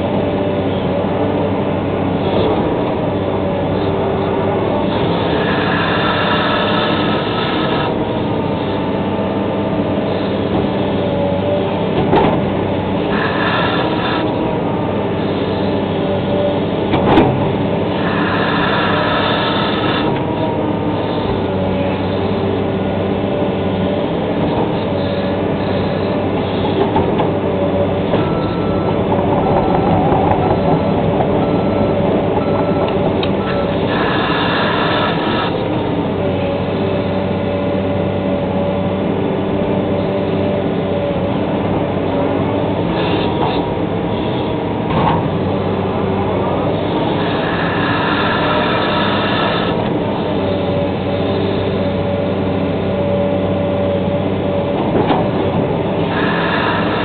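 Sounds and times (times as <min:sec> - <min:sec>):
excavator diesel engine running: 0:00.0 - 0:57.0
hydraulic whine: 0:00.0 - 0:57.0.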